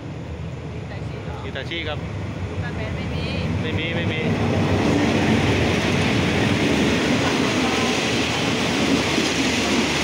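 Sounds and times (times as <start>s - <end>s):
locomotive engine passing: 0.0s - 10.0s
train wheels rumbling on rails: 0.0s - 10.0s.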